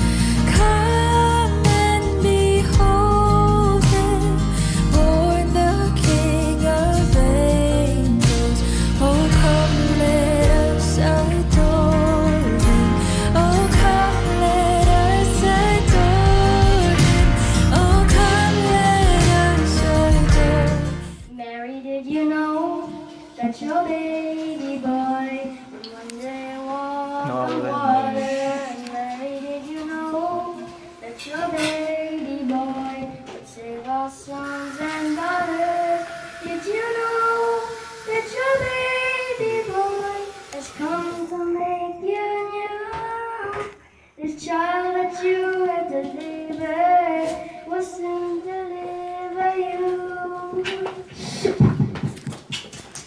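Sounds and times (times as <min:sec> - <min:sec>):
child singing karaoke: 0:00.0 - 0:52.6.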